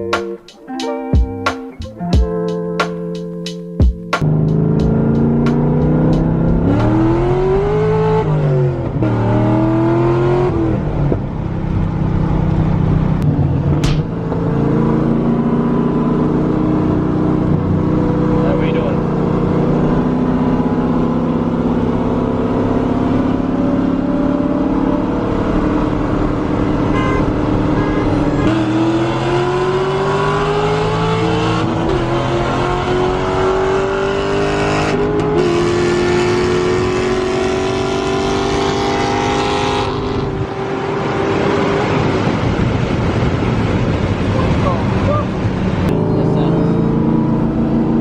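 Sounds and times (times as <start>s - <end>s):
car engine at high revs: 4.2s - 48.0s.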